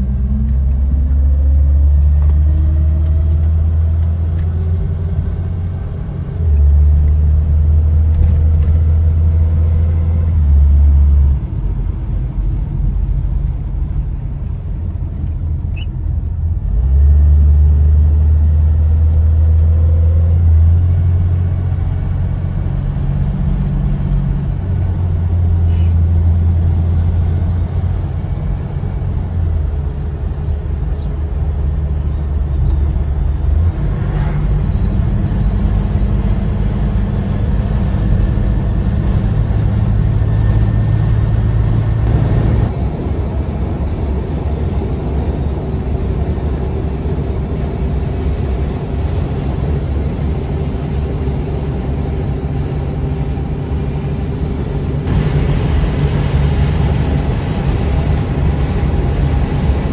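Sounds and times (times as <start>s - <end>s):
car engine droning: 0.0s - 59.9s
road and tyre noise: 0.0s - 59.9s.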